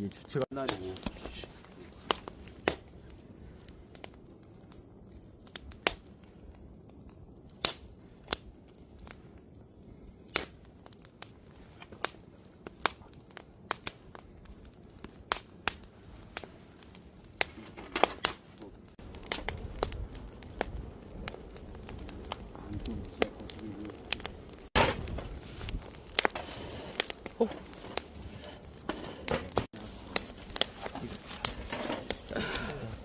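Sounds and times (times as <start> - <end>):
burning logs popping and snapping: 0.0 - 33.0.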